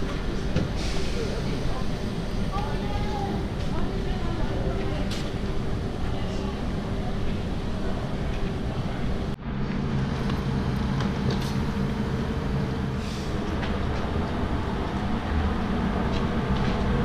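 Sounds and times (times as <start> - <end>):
train electric hum and rumble: 0.0 - 17.0.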